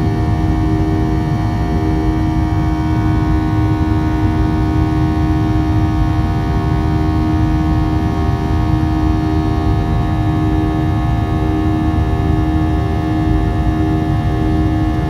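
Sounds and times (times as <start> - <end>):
engine hum and whine: 0.0 - 15.0
jet cabin rumble: 0.0 - 15.0.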